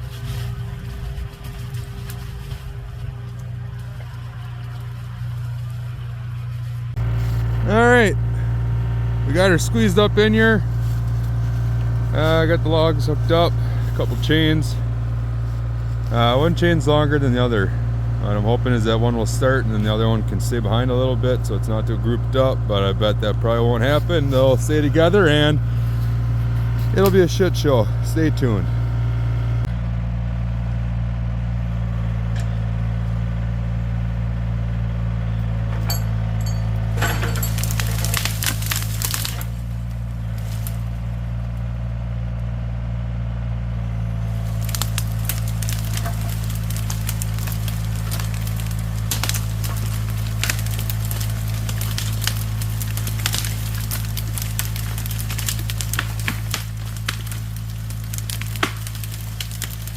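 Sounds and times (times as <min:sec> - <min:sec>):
branches cracking and snapping: 0:00.0 - 0:29.7, 0:37.0 - 0:41.8, 0:43.9 - 0:59.9
excavator engine running: 0:00.0 - 0:59.9
logs dragged through woods: 0:00.0 - 0:59.9.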